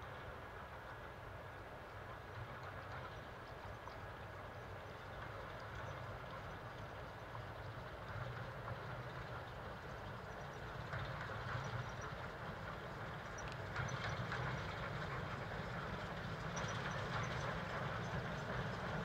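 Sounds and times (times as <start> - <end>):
distant diesel locomotive engine: 0.0 - 19.0.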